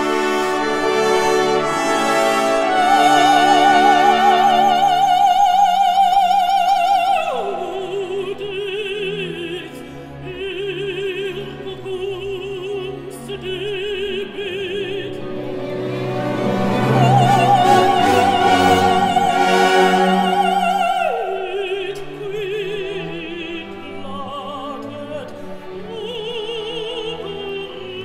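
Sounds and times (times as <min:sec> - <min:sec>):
quiet orchestral accompaniment: 0:00.0 - 0:28.0
operatic woman singing: 0:02.6 - 0:28.0.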